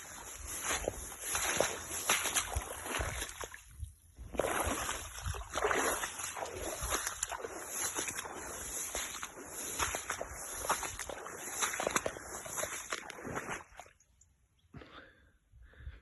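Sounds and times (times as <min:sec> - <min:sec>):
splashing in shallow water: 0:00.0 - 0:14.2.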